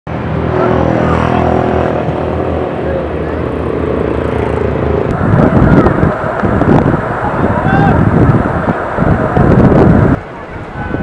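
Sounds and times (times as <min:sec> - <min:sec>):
motor engine hum: 0:00.1 - 0:11.0
wind buffeting microphone: 0:00.1 - 0:11.0.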